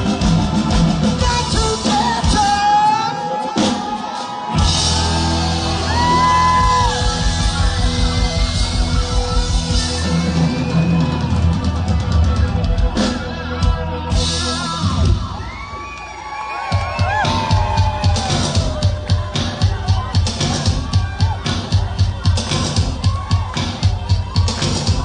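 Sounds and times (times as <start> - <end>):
bass guitar: 0.0 - 3.8, 4.5 - 15.8, 16.8 - 25.0
drum kit: 0.0 - 16.0, 16.6 - 25.0.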